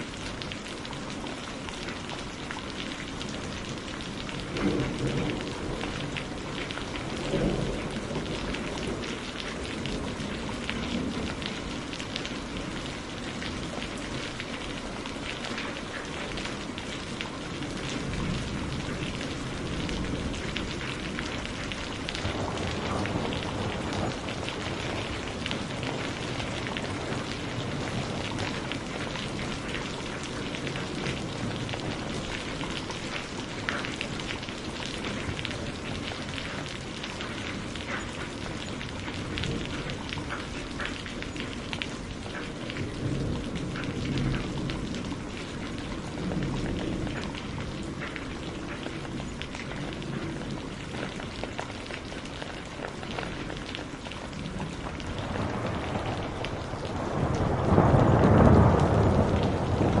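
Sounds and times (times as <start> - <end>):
steady rain: 0.0 - 60.0
thunder rumbling: 1.3 - 60.0.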